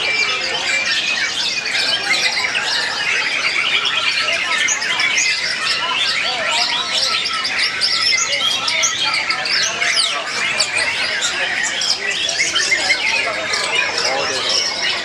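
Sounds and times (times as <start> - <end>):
birds singing whistles and chirps: 0.0 - 15.0.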